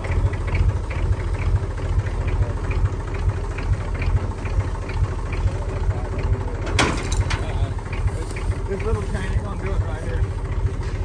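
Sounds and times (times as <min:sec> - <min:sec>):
large vehicle engine idling: 0:00.0 - 0:11.0.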